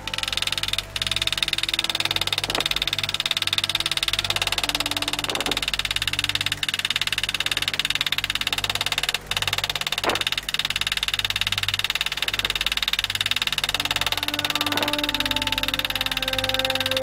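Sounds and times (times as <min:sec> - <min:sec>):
hammer tapping graver into steel: 0:00.0 - 0:17.0.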